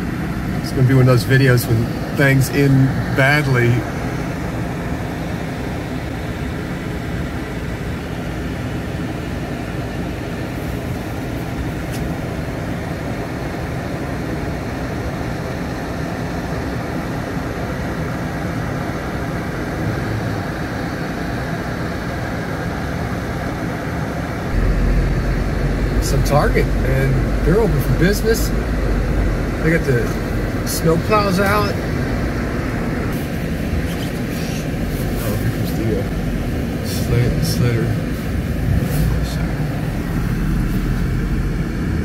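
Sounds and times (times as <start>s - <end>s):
car engine rumble inside cabin: 0.0s - 42.0s.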